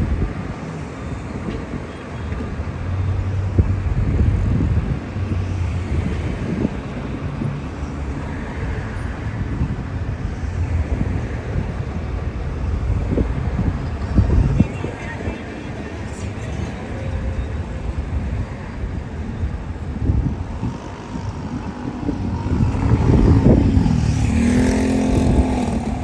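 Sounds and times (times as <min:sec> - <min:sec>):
heavy vehicle engine hum: 0:00.0 - 0:26.0
tyre and road noise: 0:00.0 - 0:26.0.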